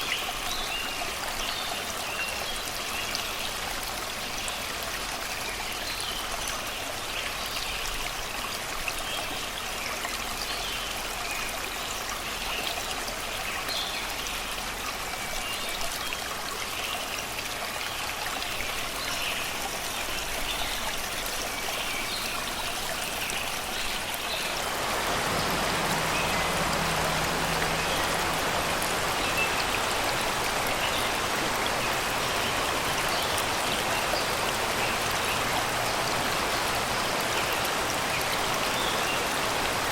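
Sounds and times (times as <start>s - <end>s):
river babbling over rocks: 0.0s - 39.9s.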